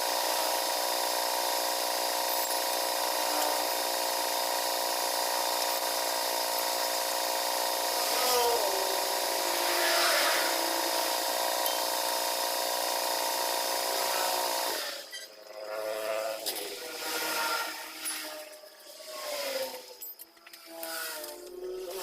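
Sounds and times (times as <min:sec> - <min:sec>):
power tool motor whining: 0:00.0 - 0:22.0.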